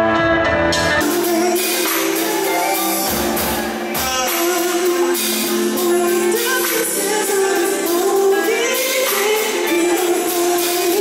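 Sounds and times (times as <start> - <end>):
live band with electric guitar: 0.0 - 11.0
person singing over guitar: 0.8 - 11.0.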